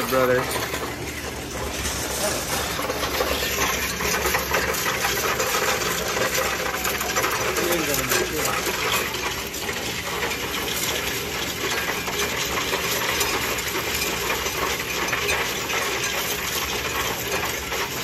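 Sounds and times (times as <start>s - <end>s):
coin machine mechanism running: 0.0s - 18.0s.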